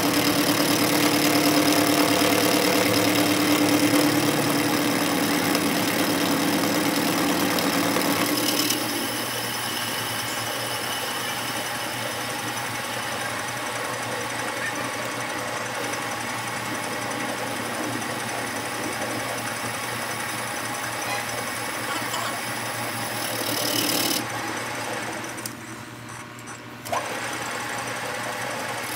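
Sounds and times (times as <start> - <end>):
metal lathe humming and rattling: 0.0 - 25.7.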